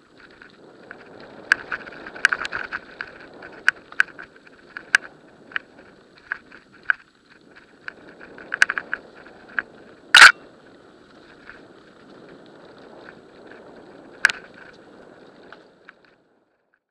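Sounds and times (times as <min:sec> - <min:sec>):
bike clicks and rattles: 0:00.0 - 0:16.9
bike tyre rumble on dirt: 0:00.0 - 0:16.9.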